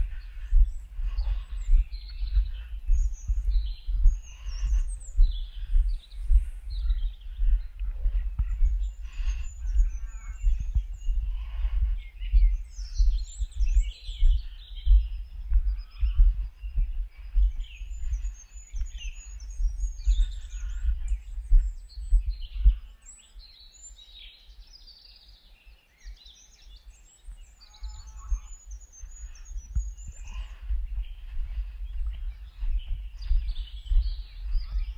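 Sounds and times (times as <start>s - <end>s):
low thumping and rumble: 0.0s - 22.8s, 29.2s - 34.9s
songbirds singing and chirping: 0.0s - 34.9s.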